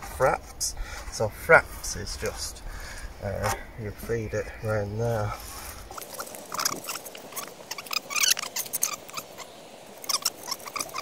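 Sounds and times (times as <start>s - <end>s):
cord scraping against wooden poles: 0.0s - 11.0s.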